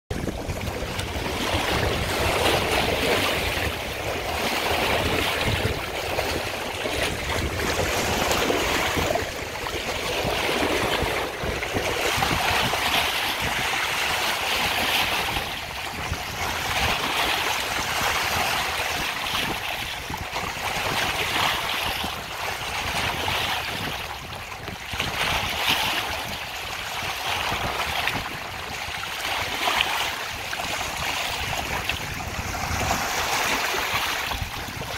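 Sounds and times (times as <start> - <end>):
sea surf washing around pilings: 0.1 - 34.9.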